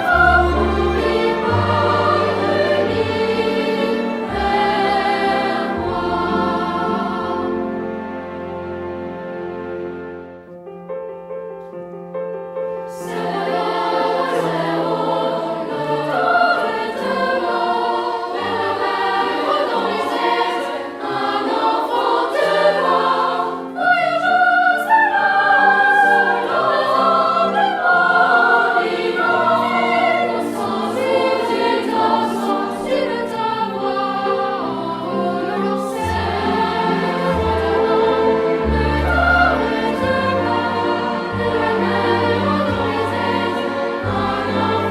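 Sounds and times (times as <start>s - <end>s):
choir singing with accompaniment: 0.0s - 10.5s, 12.8s - 44.9s.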